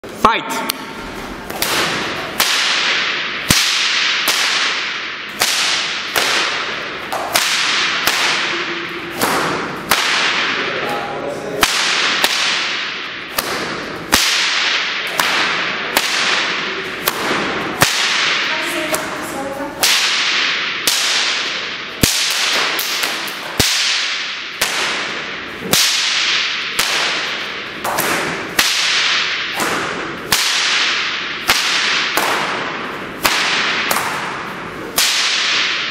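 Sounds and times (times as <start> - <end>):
bullwhip cracking with echo: 0.0 - 35.9.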